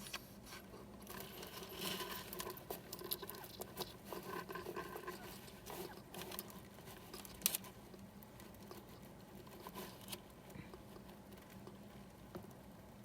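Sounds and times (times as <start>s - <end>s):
hedgehog clicks and patters: 0.9s - 13.0s.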